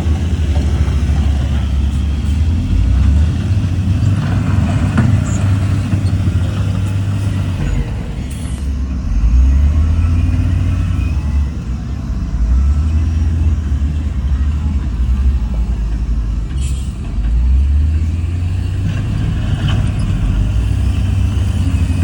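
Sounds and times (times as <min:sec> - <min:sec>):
heavy diesel engine under load: 0:00.0 - 0:22.0.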